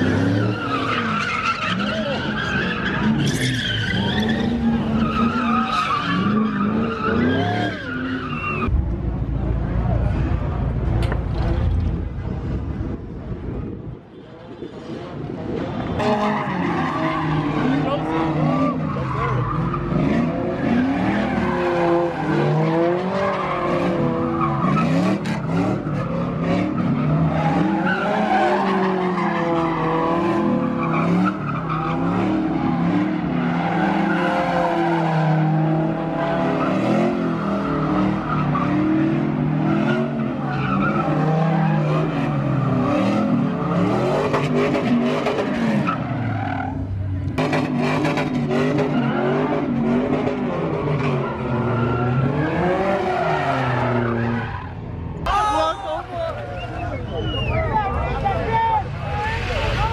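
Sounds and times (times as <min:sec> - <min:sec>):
tyres squealing and skidding: 0:00.0 - 0:08.7, 0:14.1 - 0:59.9
car engines revving: 0:00.0 - 0:59.9.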